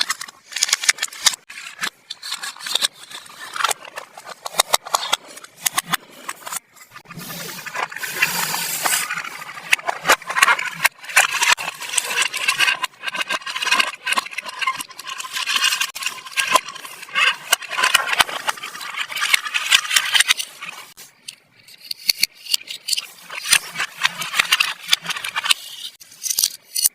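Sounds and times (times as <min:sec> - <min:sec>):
plastic toy pieces clicking: 0:00.0 - 0:06.6, 0:07.4 - 0:26.9.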